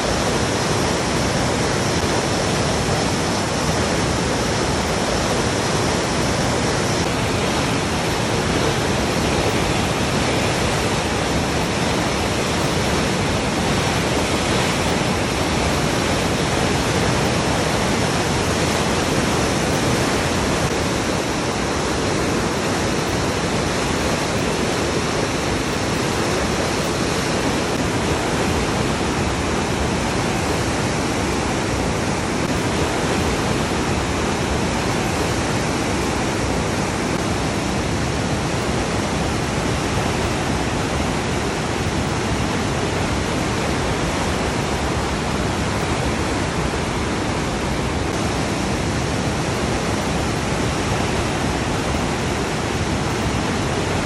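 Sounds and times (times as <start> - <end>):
river whitewater rushing: 0.0 - 54.0.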